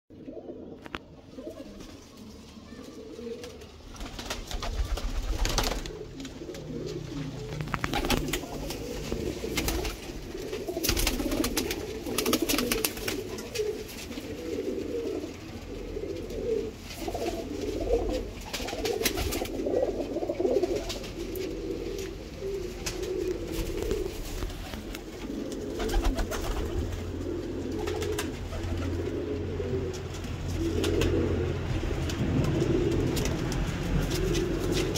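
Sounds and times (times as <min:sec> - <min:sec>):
pigeons cooing: 0:00.1 - 0:34.9.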